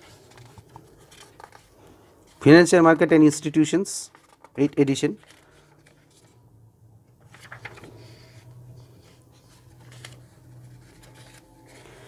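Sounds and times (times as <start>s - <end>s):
pages of a book turning: 0.0s - 6.5s, 7.2s - 12.0s.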